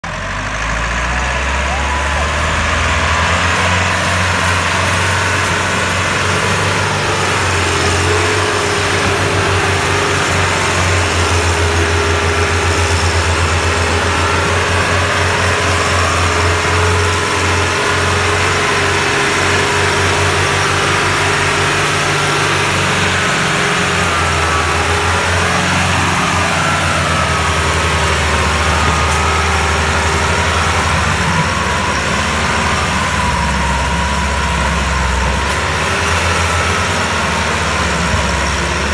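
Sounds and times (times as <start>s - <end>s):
tractor engine throbbing: 0.0s - 38.9s.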